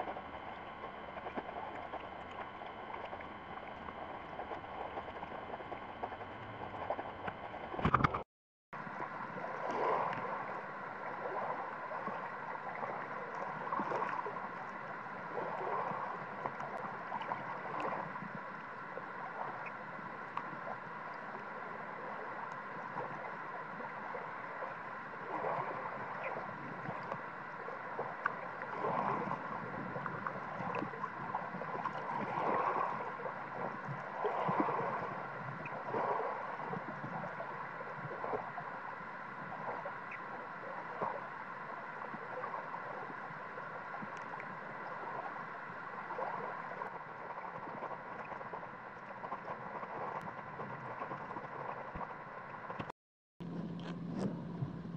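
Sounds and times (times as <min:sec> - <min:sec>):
water lapping and gurgling: 0:00.0 - 0:08.2, 0:08.8 - 0:54.9.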